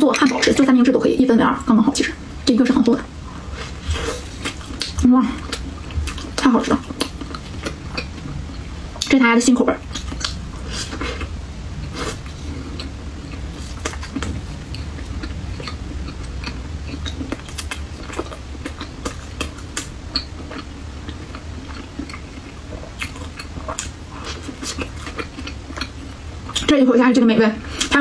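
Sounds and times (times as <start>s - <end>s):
steady low hum: 0.0s - 28.0s
person chewing food: 3.3s - 9.1s, 9.8s - 26.7s.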